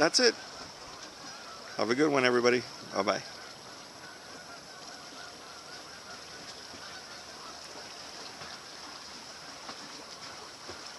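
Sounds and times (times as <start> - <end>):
distant geese honking: 0.0 - 10.9.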